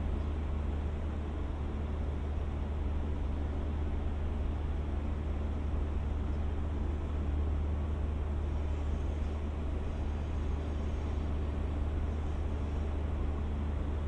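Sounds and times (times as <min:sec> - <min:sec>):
train diesel engine hum: 0:00.0 - 0:14.0.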